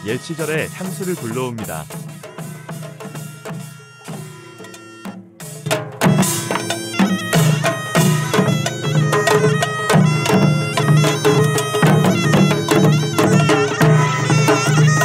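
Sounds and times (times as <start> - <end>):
reedy wind instrument melody: 0.0 - 15.0.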